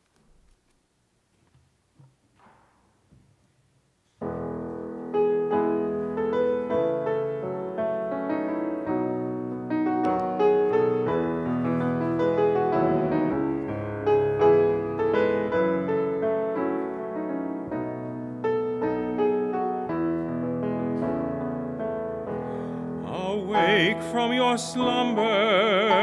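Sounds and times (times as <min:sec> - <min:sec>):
piano playing hymn chords: 0:04.2 - 0:26.0.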